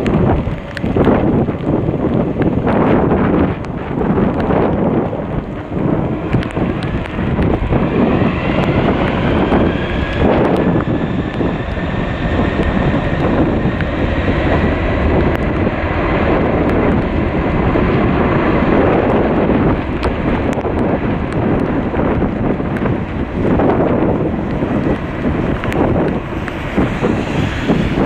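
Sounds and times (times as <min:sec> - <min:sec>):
jet engine whine rising: 0:00.0 - 0:28.0
wind buffeting microphone: 0:00.0 - 0:28.0.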